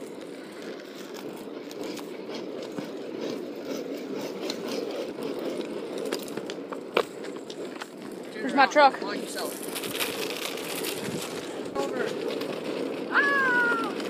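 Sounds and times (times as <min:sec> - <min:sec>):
hard wheels rolling over pavement: 0:00.0 - 0:14.0.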